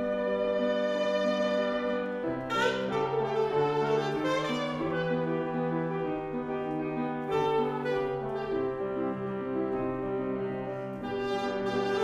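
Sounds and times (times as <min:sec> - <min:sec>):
saxophone slow melody: 0:00.0 - 0:12.0
sustained keyboard chords: 0:00.0 - 0:12.0.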